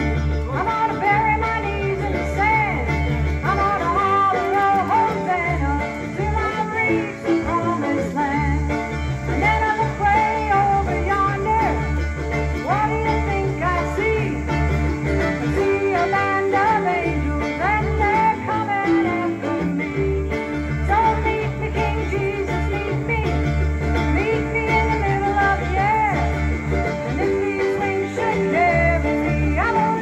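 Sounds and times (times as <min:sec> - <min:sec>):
acoustic guitar: 0:00.0 - 0:30.0
bass line: 0:00.0 - 0:30.0
electric guitar bending notes: 0:00.0 - 0:30.0
mandolin: 0:00.0 - 0:30.0.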